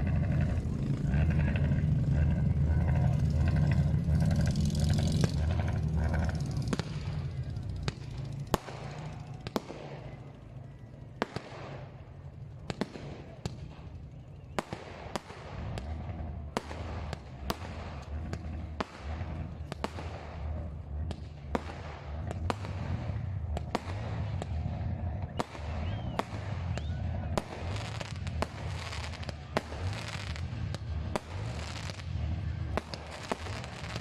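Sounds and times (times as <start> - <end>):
fireworks bangs with echo: 0.0 - 34.0
loud motorcycle engine: 0.0 - 34.0.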